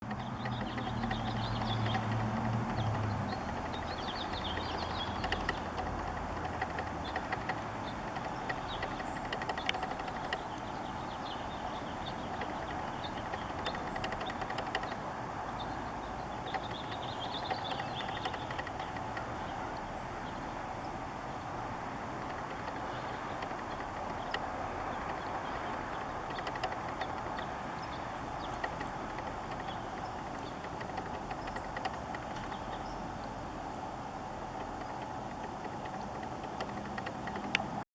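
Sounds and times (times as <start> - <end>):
small birds twittering: 0.0 - 37.8.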